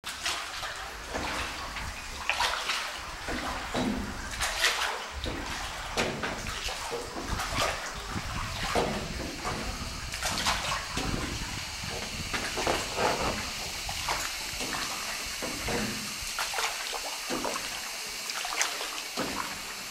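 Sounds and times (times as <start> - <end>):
oars splashing in water: 0.0 - 19.9.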